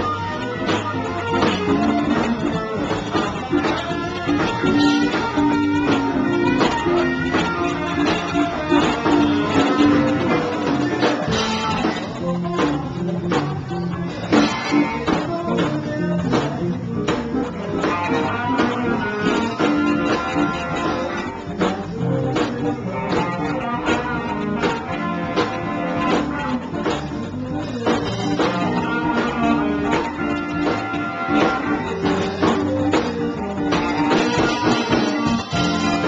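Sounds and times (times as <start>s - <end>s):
drum kit beat: 0.0s - 36.0s
electric guitars: 0.0s - 36.0s.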